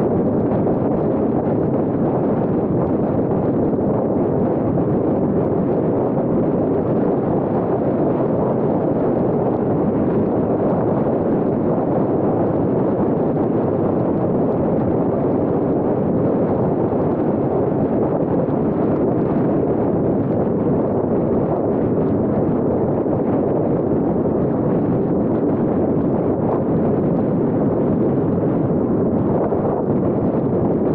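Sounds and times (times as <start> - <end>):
wind blowing across microphone: 0.0 - 30.9.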